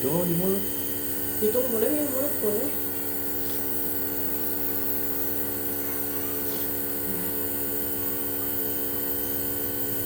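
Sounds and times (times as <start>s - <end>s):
nebulizer electric hum: 0.0s - 10.0s.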